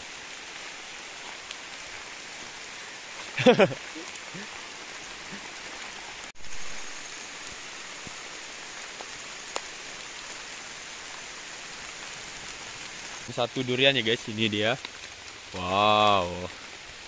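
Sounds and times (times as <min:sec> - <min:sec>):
rain pattering on leaves: 0:00.0 - 0:17.0.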